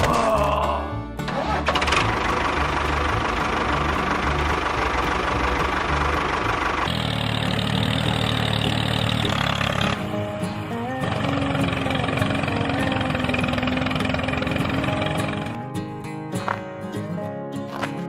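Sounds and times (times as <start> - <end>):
engine running: 0.5 - 16.0.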